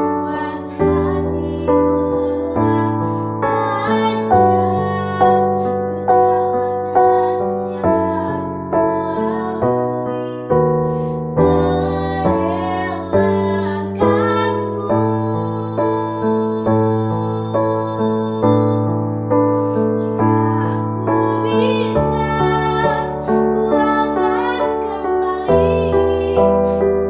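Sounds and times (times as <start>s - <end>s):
girl singing: 0.0s - 18.9s, 19.7s - 27.0s
piano chords: 0.0s - 27.0s.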